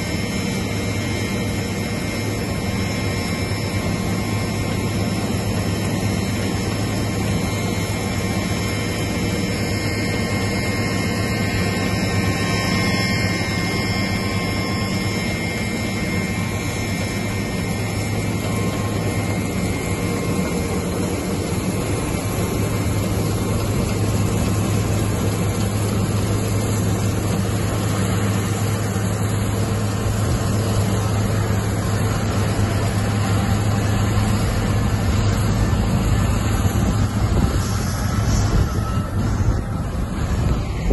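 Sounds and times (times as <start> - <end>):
harvester machinery drone: 0.0 - 40.9.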